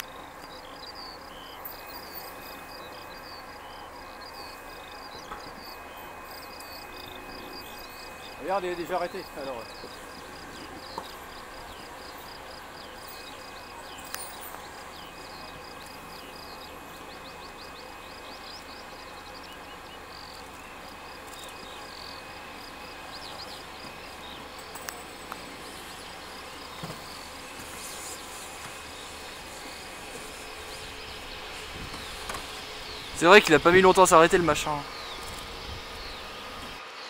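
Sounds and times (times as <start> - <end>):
insects chirping: 0.0 - 37.0
jet engines humming: 0.0 - 37.0.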